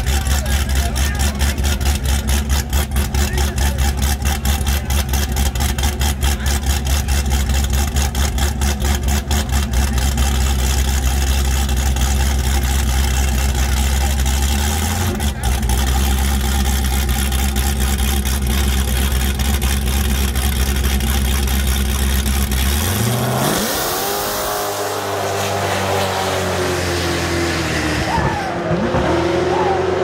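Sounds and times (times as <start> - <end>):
car engine idling with lope: 0.0 - 30.0.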